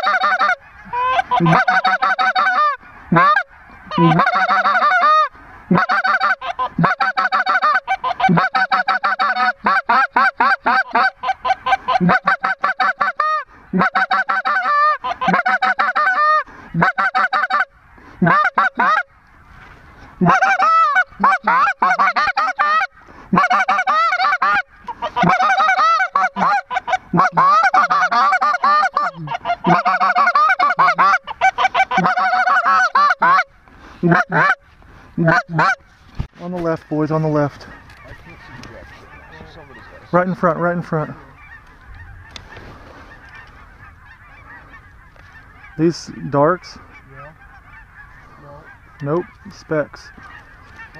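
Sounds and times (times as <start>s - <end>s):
goose calls honking and clucking: 0.0s - 50.9s.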